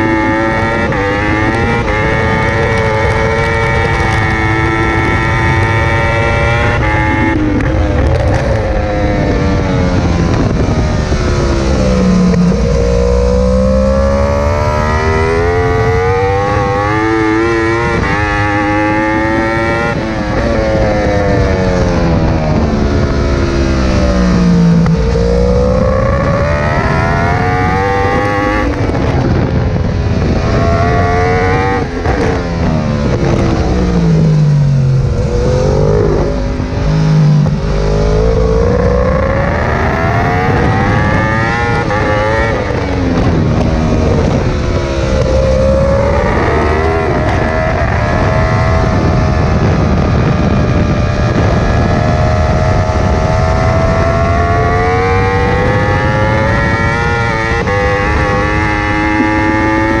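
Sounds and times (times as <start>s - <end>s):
motorcycle engine racing: 0.0s - 60.0s.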